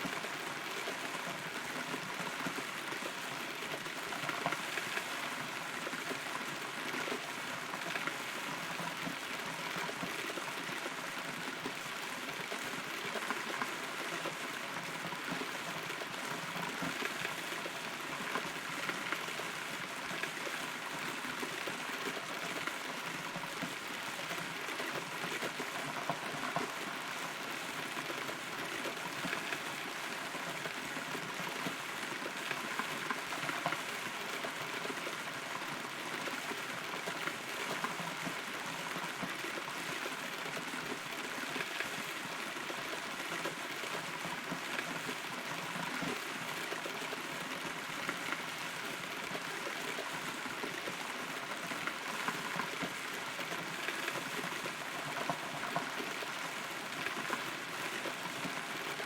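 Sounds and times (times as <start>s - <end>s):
rain drops pattering on wood: 0.0s - 59.0s.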